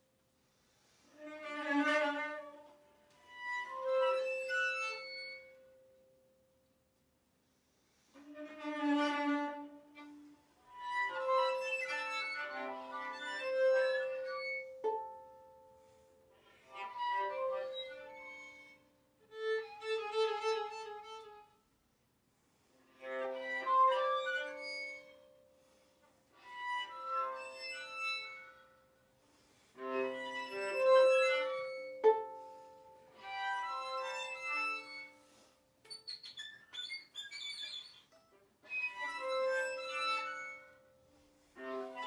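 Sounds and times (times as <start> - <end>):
violin and viola playing: 1.1 - 5.6, 8.2 - 21.5, 22.9 - 25.8, 26.4 - 28.7, 29.3 - 35.6, 36.2 - 42.0.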